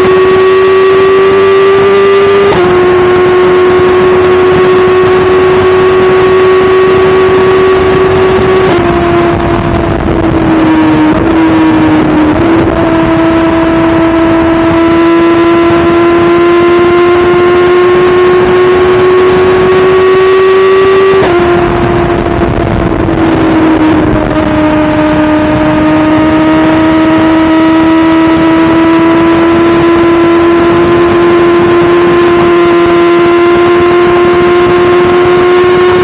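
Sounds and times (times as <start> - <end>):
motorcycle engine running at speed: 0.0 - 36.0.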